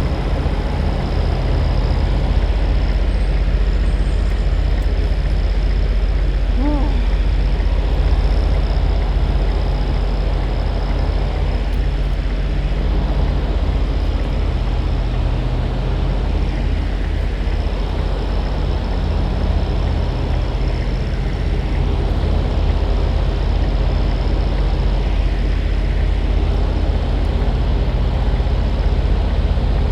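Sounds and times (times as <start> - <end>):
diesel truck engine running: 0.0 - 29.9.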